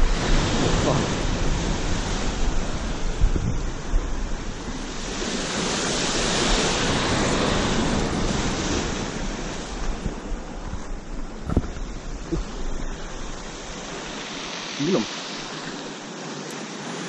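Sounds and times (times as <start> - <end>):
surf breaking against rocks: 0.0 - 17.0.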